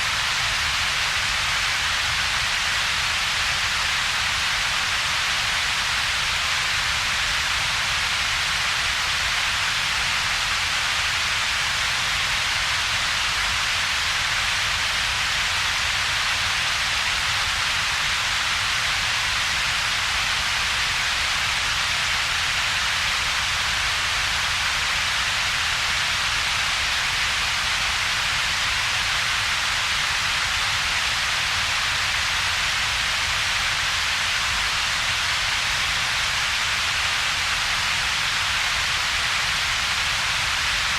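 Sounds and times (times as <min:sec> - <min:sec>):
synthetic noise rumble and hiss: 0:00.0 - 0:40.9.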